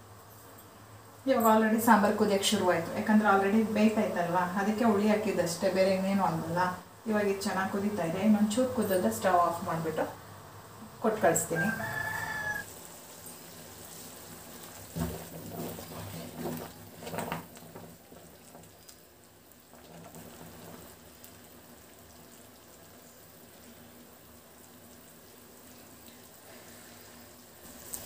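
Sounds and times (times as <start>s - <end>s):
pot bubbling: 2.1s - 28.0s.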